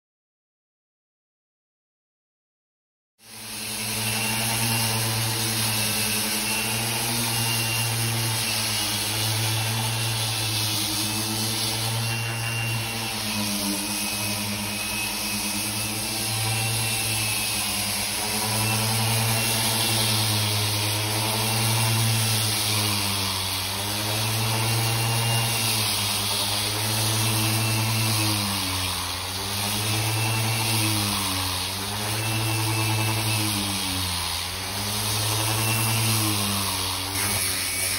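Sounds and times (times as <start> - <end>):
electric orbital sander running: 3.2 - 37.9.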